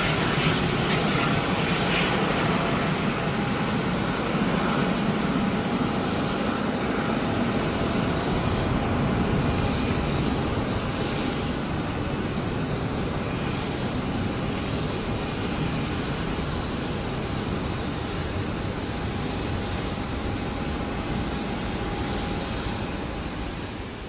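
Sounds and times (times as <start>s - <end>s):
faint jet whine: 0.0s - 24.0s
jet engine roar: 0.0s - 24.0s.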